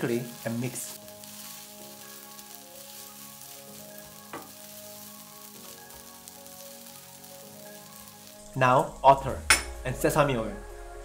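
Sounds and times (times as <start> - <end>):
rice sizzling in a frying pan: 0.0 - 10.1.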